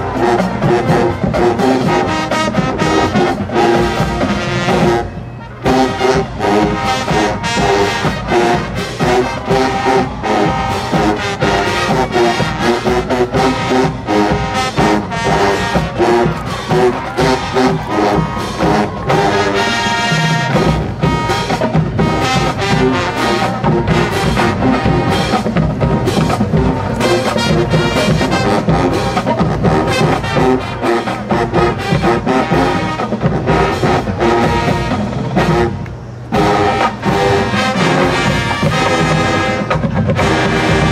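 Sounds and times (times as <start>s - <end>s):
brass section playing: 0.0s - 40.9s
marching drums beating: 0.0s - 40.9s.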